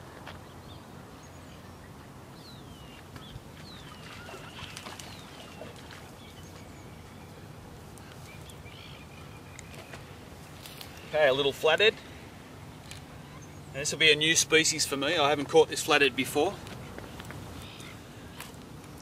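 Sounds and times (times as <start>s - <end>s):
birds calling: 0.4s - 19.0s.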